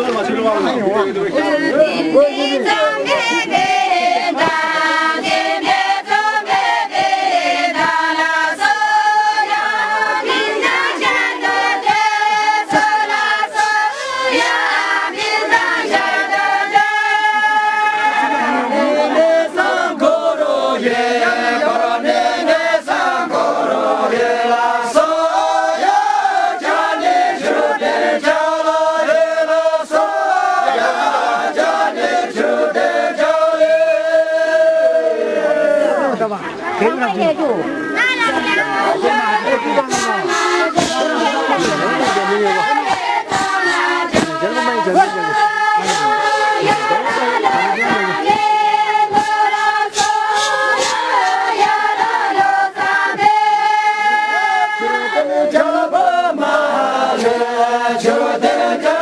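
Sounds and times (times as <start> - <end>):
group of men and women singing: 0.0 - 59.0.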